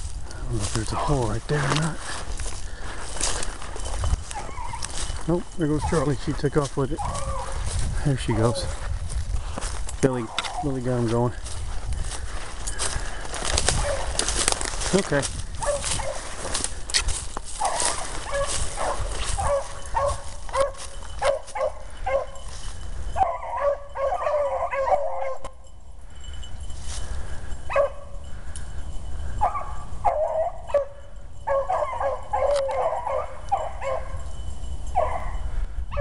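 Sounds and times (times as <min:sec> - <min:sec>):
hounds baying: 0:00.5 - 0:36.0.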